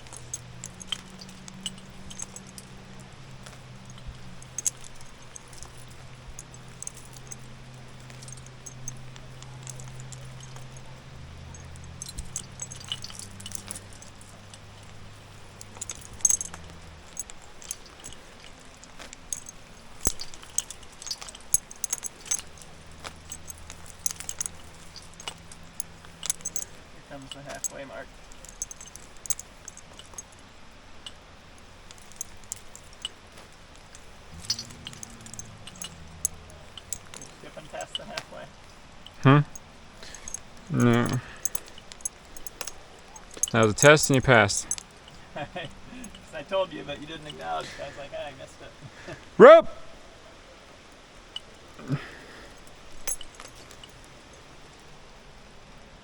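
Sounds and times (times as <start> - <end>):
metal climbing gear clinking: 0.0 - 56.0.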